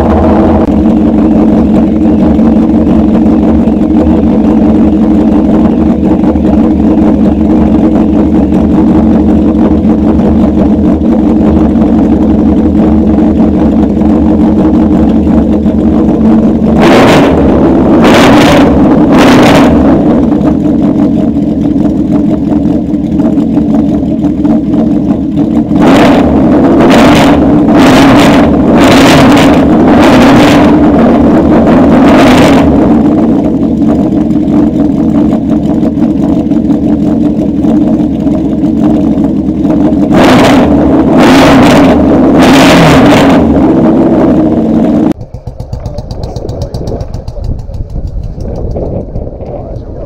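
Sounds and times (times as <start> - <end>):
low rumble: 0.0 - 50.0
motorcycle engine idling and revving: 0.0 - 50.0.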